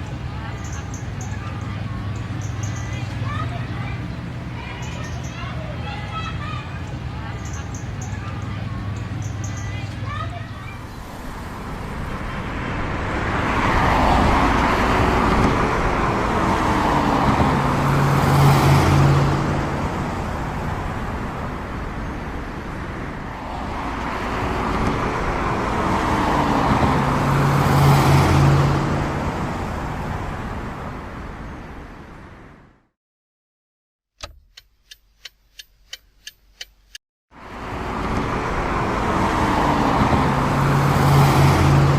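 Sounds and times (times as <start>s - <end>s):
road vehicle driving past: 0.0s - 32.9s, 37.4s - 41.9s.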